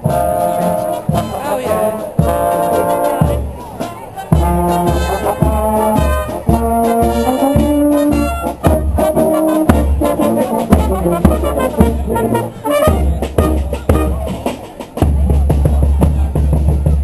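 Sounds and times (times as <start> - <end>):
marching brass band playing: 0.0 - 17.0
steady bass drum beat: 0.0 - 17.0.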